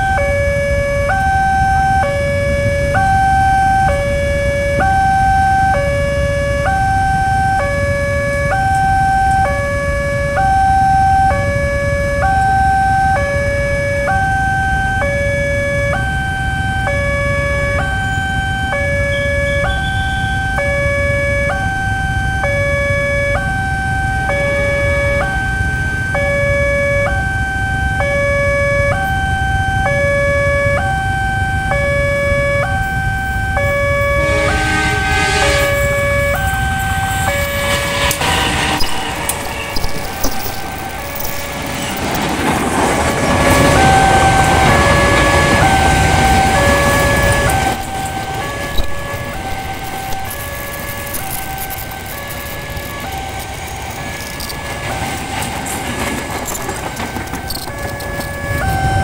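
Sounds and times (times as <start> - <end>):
level crossing two-tone alarm: 0.0 - 59.0.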